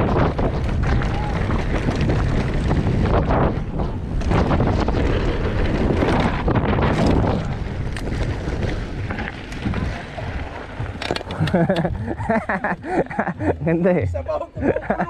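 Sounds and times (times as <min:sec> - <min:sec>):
wind rushing over microphone: 0:00.0 - 0:13.7
bike rattling over rough ground: 0:00.0 - 0:13.9.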